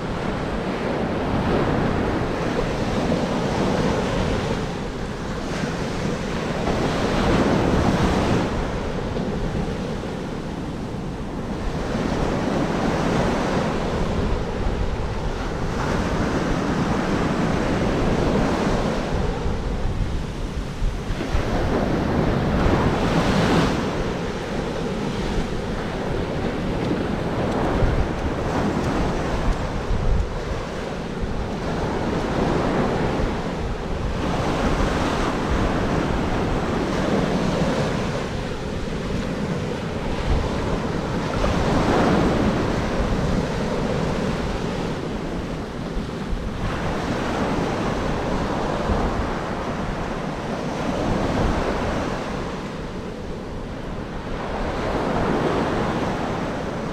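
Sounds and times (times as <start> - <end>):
ocean surf breaking: 0.0 - 56.9
wind buffeting microphone: 0.0 - 56.9.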